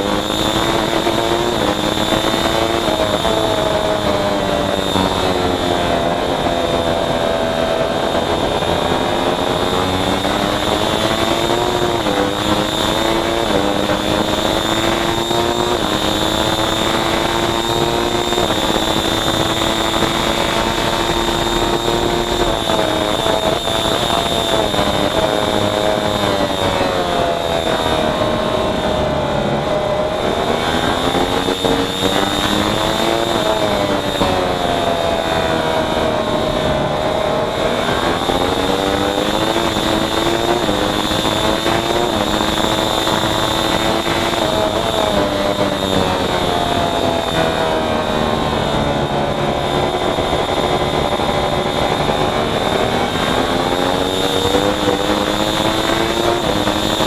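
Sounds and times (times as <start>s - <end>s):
high-pitched whine: 0.0s - 57.0s
racing motorcycle engine revving: 0.0s - 57.0s.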